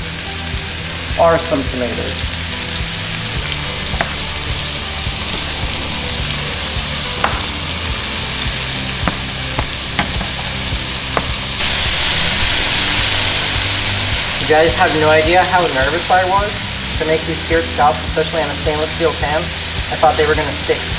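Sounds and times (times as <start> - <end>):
oil sizzling in a pan: 0.0 - 20.9.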